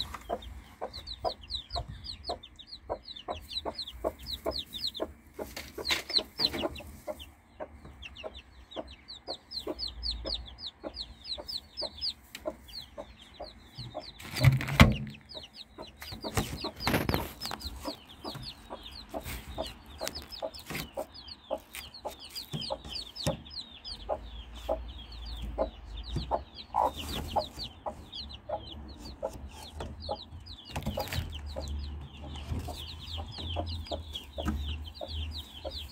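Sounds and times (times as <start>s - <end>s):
chicks peeping: 0.0s - 35.9s
hen clucking: 0.0s - 35.9s.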